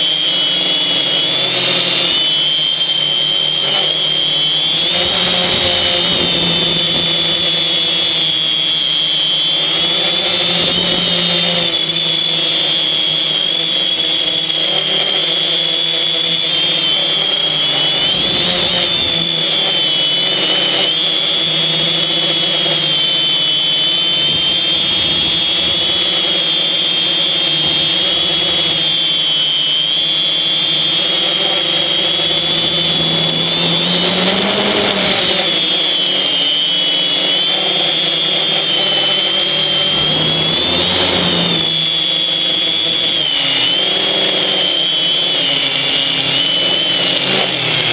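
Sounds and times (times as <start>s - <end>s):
drone propellers whining: 0.0s - 47.9s.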